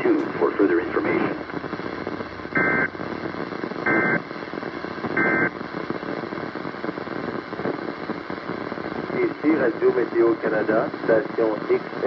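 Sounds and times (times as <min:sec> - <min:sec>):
radio static: 0:00.0 - 0:12.0.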